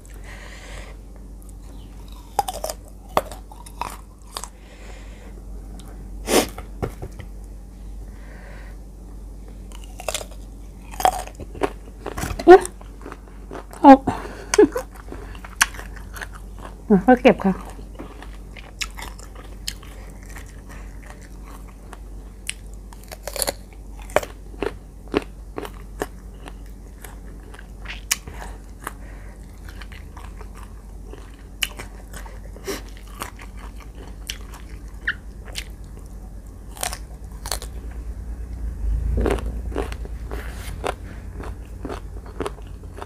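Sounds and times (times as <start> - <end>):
crunching and chewing mango: 0.0 - 6.6, 9.5 - 43.0.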